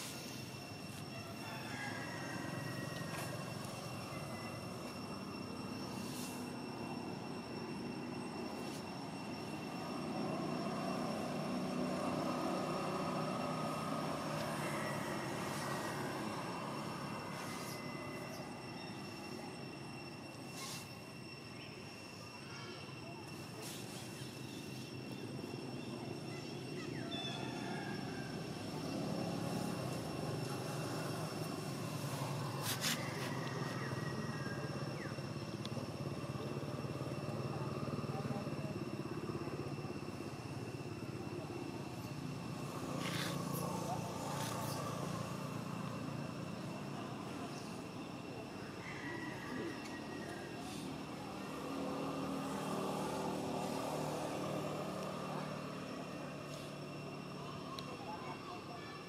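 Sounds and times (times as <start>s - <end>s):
distant engine drone: 0.0s - 59.0s
high-pitched steady tones: 0.0s - 59.0s
high-pitched whine: 0.0s - 59.0s.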